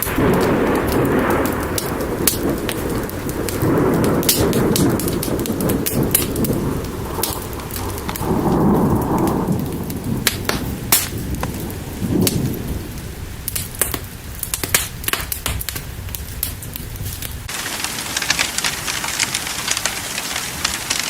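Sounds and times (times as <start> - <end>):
low rolling thunder: 0.0 - 21.0
sharp crackling pops: 0.0 - 21.0
steady rain: 0.0 - 21.0.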